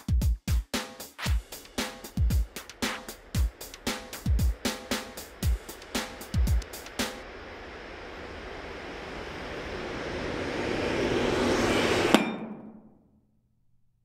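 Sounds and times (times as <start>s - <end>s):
outro music: 1.1s - 12.8s
rising swell of noise: 1.3s - 13.0s
sharp hit: 1.3s - 13.0s.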